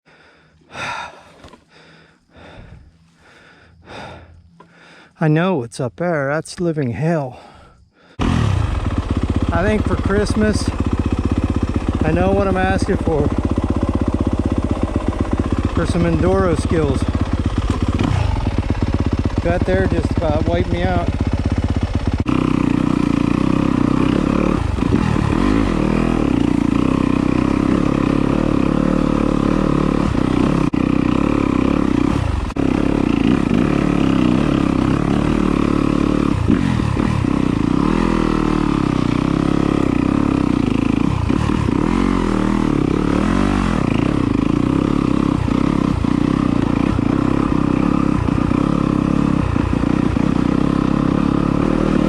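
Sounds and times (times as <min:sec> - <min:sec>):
dirt bike engine revving: 0:08.1 - 0:52.0.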